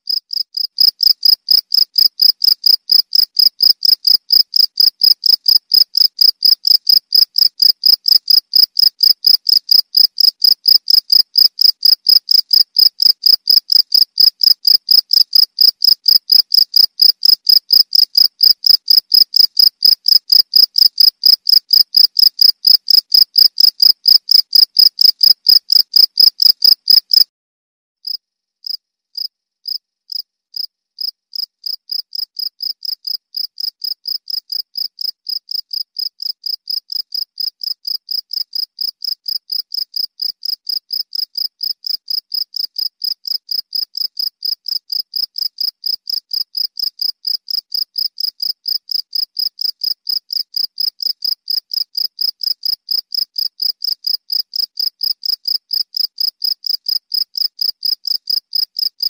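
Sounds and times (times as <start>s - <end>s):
quiet cricket chirping: 0.1s - 27.2s, 28.1s - 59.0s.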